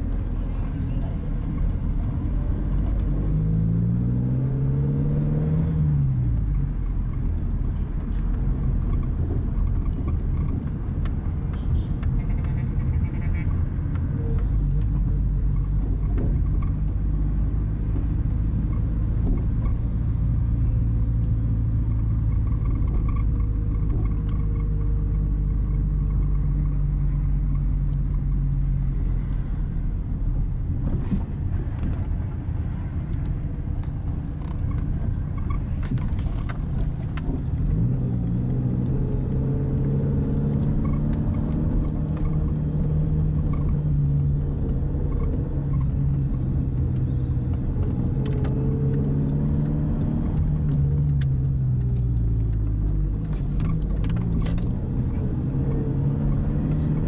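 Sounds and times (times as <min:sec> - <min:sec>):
car engine: 0:00.0 - 0:57.0
road rumble: 0:00.0 - 0:57.0.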